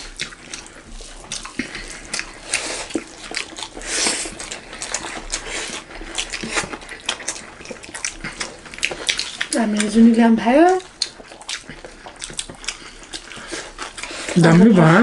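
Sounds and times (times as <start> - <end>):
wet chewing and lip smacks: 0.0 - 14.6
fingers mixing food on steel plate: 0.0 - 14.9.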